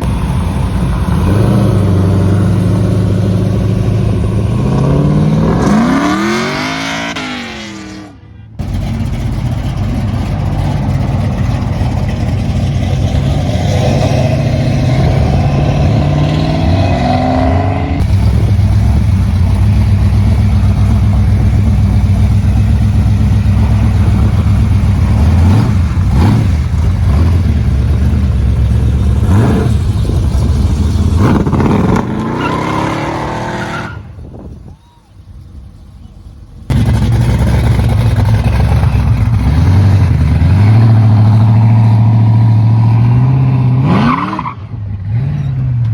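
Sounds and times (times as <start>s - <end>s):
cars driving off: 0.0s - 45.9s
deep engine rumble revving: 0.0s - 45.9s.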